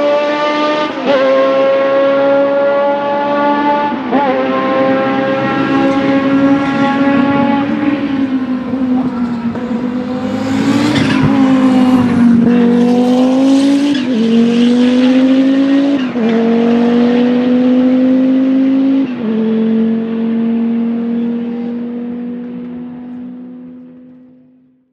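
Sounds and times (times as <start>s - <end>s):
race car accelerating through gears: 0.0s - 24.4s.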